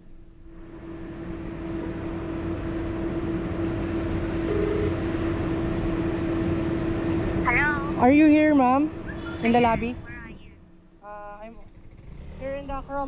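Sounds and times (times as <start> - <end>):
scooter engine humming: 0.0 - 13.0.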